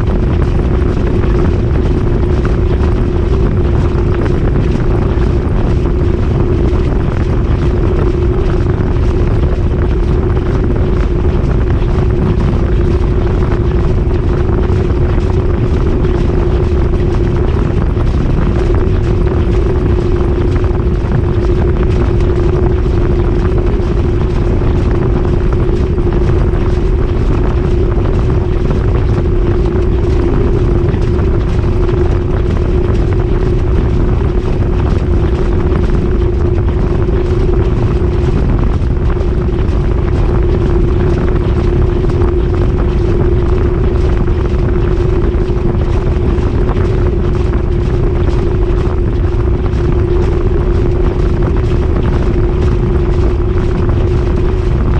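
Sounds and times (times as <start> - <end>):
constant motor hum: 0.0 - 54.9
washing machine spinning: 0.0 - 54.9.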